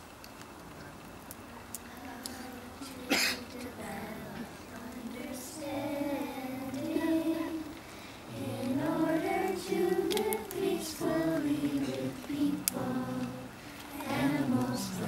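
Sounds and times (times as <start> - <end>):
children singing: 2.0 - 15.0.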